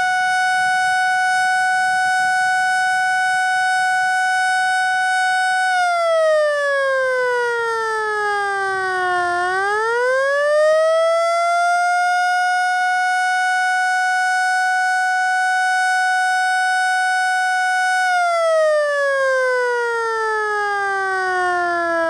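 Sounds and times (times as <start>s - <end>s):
siren winding up and down: 0.0s - 22.0s.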